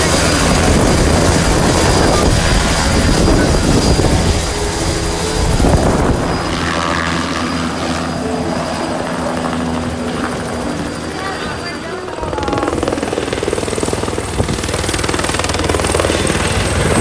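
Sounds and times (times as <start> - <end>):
helicopter rotor beating: 0.0 - 17.0.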